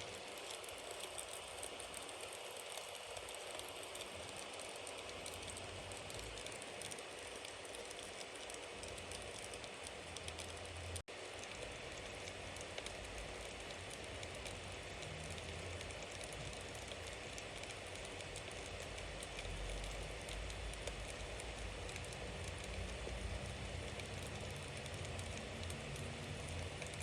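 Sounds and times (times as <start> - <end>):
bonfire hissing and crackling: 0.0 - 27.0.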